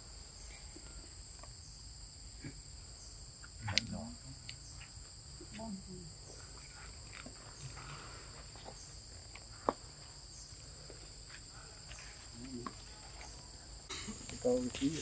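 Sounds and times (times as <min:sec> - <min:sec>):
insects chirring in forest: 0:00.0 - 0:15.0.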